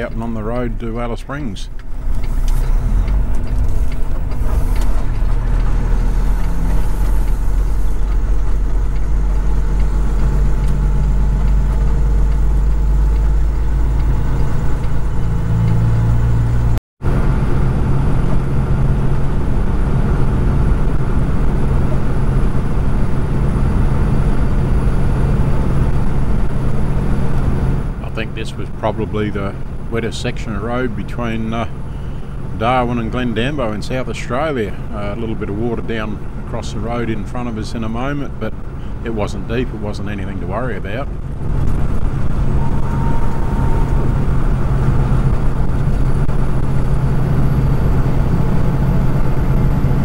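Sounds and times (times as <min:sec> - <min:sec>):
road noise: 0:00.0 - 0:50.0
truck diesel engine droning: 0:00.0 - 0:50.0.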